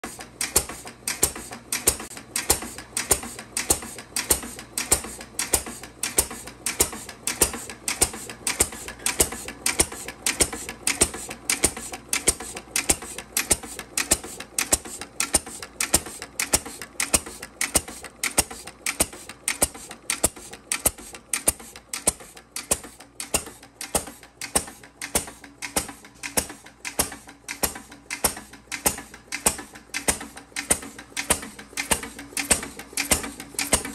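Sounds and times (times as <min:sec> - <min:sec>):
flywheel engine firing: 0:00.0 - 0:33.9
valve gear clatter: 0:00.0 - 0:33.9.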